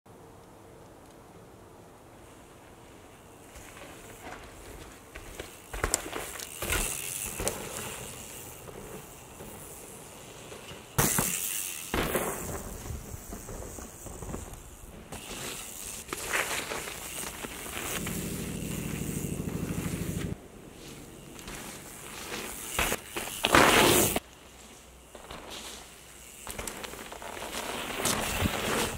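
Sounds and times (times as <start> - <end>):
bike tyres crunching on dirt: 2.2 - 28.9
bicycle freehub buzz: 3.5 - 28.9
bike thuds and rattles: 3.5 - 28.9.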